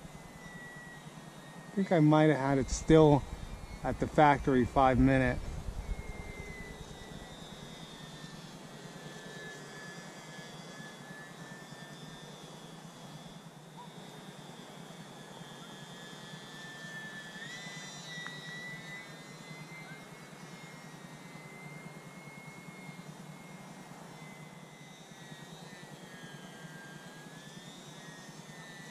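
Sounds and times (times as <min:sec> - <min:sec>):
electric motor and propeller whining: 0:00.0 - 0:28.9.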